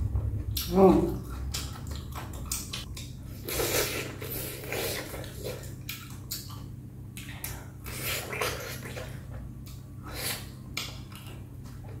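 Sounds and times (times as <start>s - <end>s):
person chewing with lip smacks: 0.5s - 12.0s.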